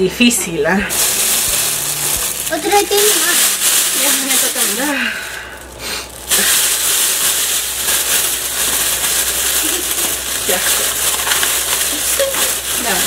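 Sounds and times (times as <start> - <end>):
steady loud hiss: 0.5 - 13.0.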